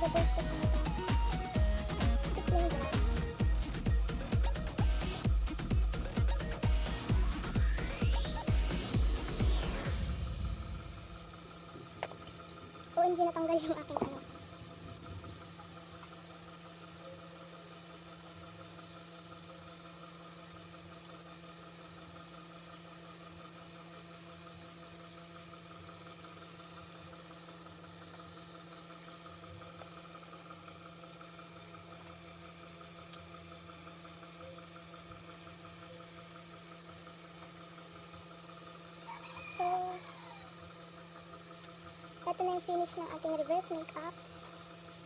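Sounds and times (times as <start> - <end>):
small motor humming: 0.0 - 45.0.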